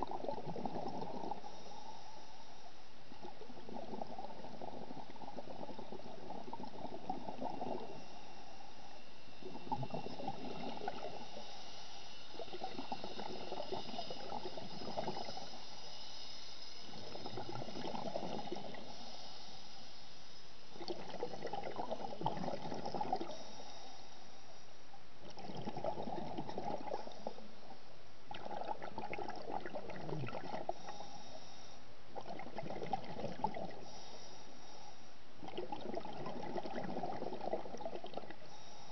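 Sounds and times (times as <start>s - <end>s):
underwater regulator bubbling: 0.0s - 1.8s, 3.1s - 19.9s, 20.6s - 23.6s, 25.2s - 27.5s, 28.3s - 31.0s, 32.2s - 34.1s, 35.4s - 38.5s.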